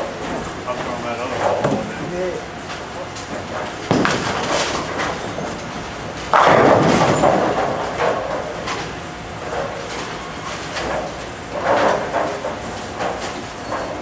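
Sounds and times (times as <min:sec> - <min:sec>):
bowling balls rolling: 0:00.0 - 0:02.2, 0:03.3 - 0:14.0
bowling pins clattering: 0:00.2 - 0:02.2, 0:03.3 - 0:14.0.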